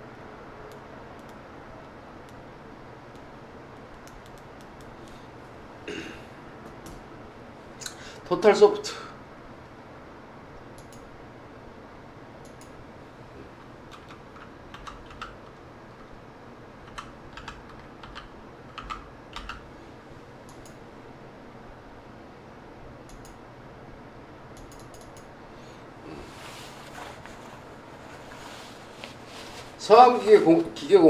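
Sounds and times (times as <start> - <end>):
faint room hum: 0.0 - 31.0.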